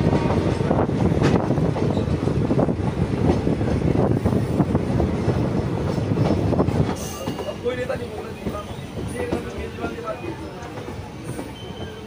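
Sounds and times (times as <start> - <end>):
train rumble from aboard: 0.0 - 12.0.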